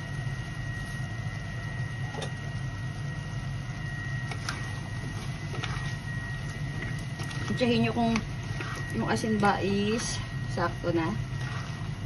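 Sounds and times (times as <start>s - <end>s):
kitchen appliance hum: 0.0s - 12.0s
thin high whine: 0.0s - 12.0s.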